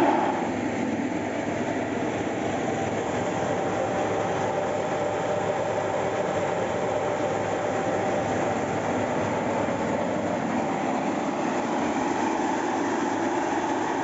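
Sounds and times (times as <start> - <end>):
corn sheller motor running: 0.0 - 14.0.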